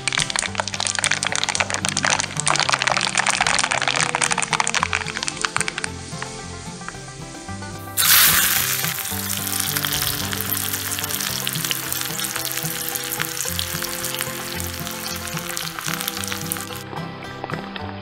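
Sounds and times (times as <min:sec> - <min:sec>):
chilli sizzling in hot oil: 0:00.0 - 0:16.8
steady frying sizzle: 0:00.0 - 0:16.8
background music: 0:00.0 - 0:18.0.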